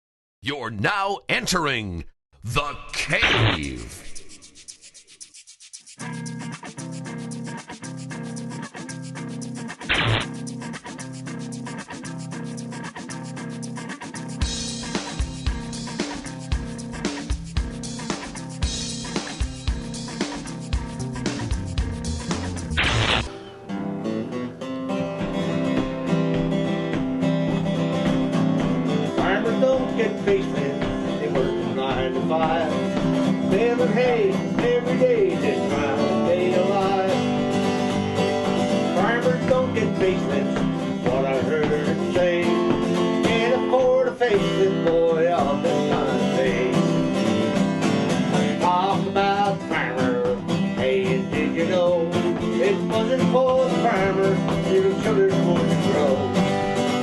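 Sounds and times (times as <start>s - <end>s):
acoustic guitar: 3.1s - 57.0s.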